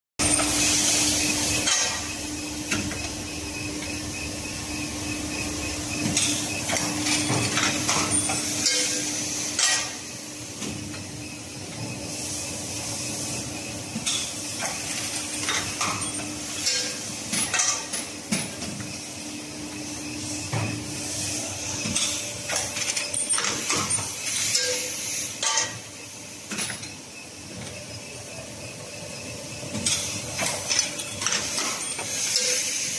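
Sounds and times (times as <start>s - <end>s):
machine low hum: 0.2s - 32.6s.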